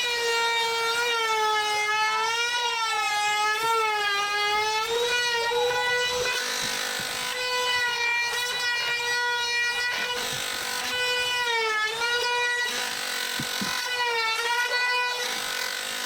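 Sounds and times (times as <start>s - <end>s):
power tool motor whining: 0.0s - 16.0s.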